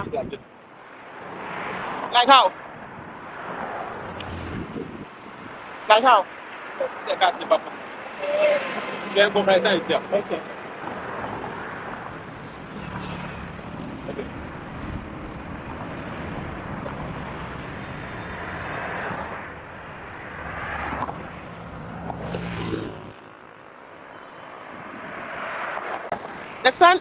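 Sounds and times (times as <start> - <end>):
cars passing: 0.0 - 27.0
vehicle engine humming: 2.9 - 26.6.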